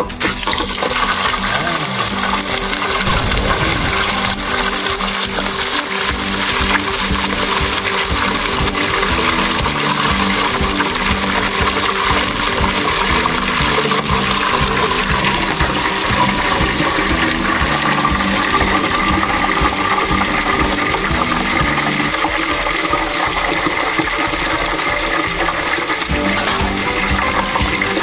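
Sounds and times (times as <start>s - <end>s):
hot oil bubbling in fryer: 0.0s - 28.0s.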